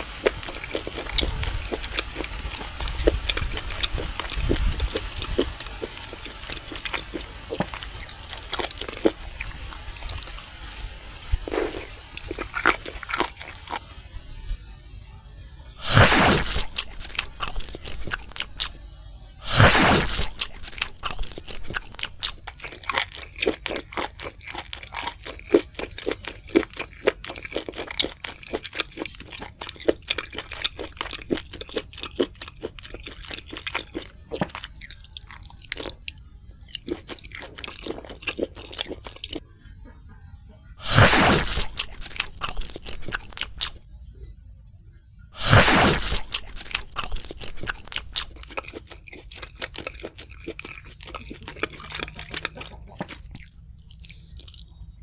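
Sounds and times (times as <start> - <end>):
crunching and chewing crispy food: 0.0 - 44.4, 45.3 - 55.0.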